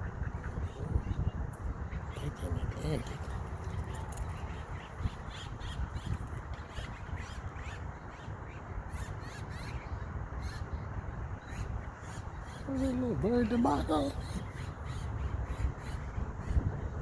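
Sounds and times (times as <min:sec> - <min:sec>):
waterbirds calling: 0:00.0 - 0:17.0.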